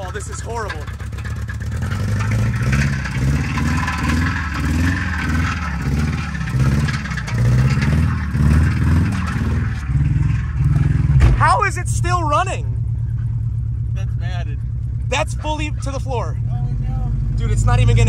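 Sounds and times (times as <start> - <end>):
car engine at full throttle: 0.0 - 18.0
engine knocking: 0.0 - 18.0.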